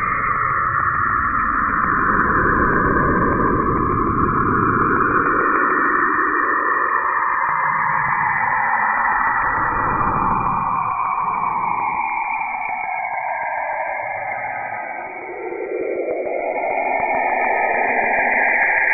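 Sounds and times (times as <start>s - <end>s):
steady hissing rushing noise: 0.0s - 18.9s.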